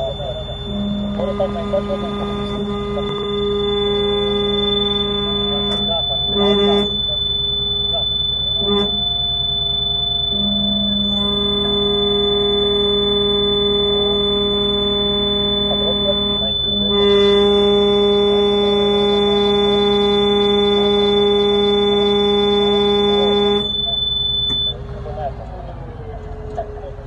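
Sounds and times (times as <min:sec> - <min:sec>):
horn-like tone blasts: 0:00.0 - 0:24.8
high-pitched whine: 0:00.0 - 0:25.8.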